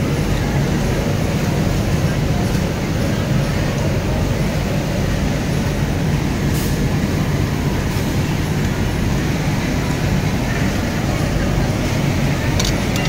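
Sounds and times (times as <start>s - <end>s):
factory floor rumble: 0.0s - 13.0s.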